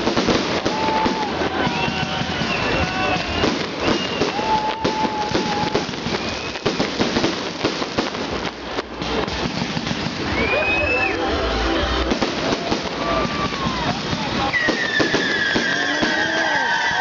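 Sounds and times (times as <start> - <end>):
fireworks bangs and crackles: 0.0 - 17.0
fireworks whistling: 0.0 - 17.0.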